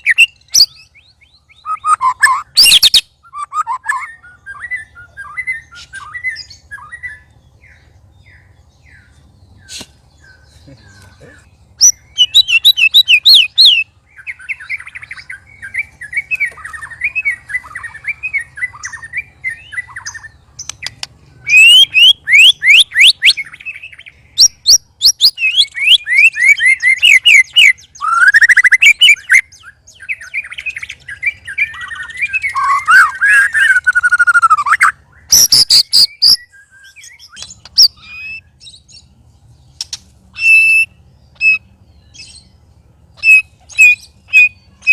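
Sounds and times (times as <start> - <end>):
songbirds singing whistled phrases: 0.0 - 44.9.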